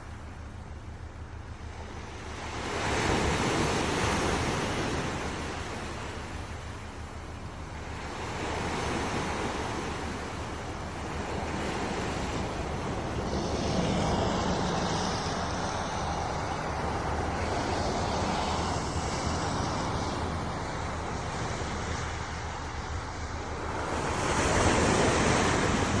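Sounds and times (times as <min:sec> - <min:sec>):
waves washing in: 0:00.0 - 0:26.0.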